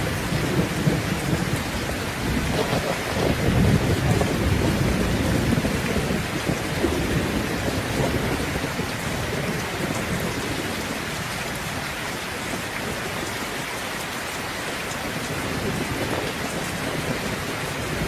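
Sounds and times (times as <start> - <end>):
low rolling thunder: 0.0 - 13.3, 15.1 - 18.0
steady rain: 0.0 - 18.0.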